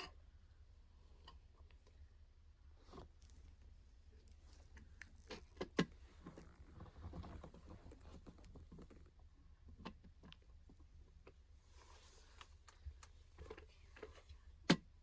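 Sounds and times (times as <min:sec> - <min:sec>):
low steady hum: 0:00.0 - 0:15.0
soft rustling of handling: 0:01.0 - 0:14.7.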